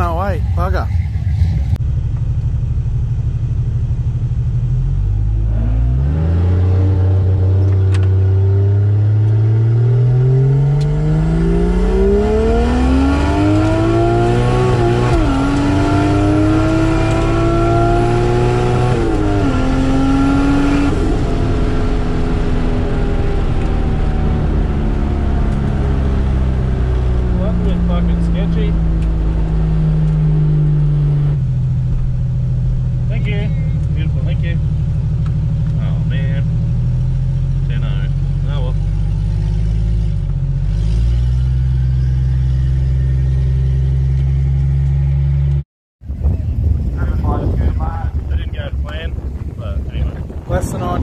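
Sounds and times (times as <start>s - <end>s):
car engine accelerating: 0.0s - 51.0s.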